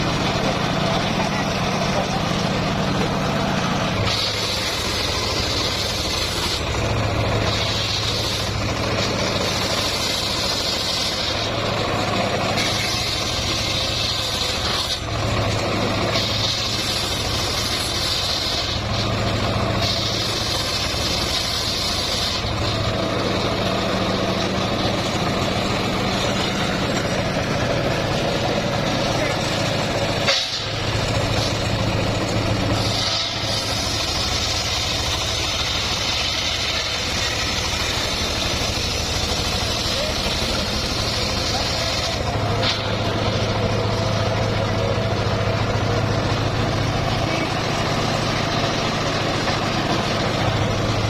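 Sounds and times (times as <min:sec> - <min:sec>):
sawmill engine humming: 0:00.0 - 0:51.0
saw blade hiss: 0:01.8 - 0:46.1.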